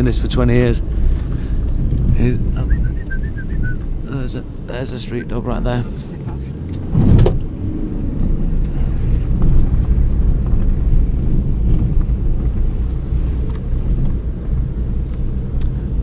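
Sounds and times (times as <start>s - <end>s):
engine and tyres rumbling: 0.0s - 16.0s.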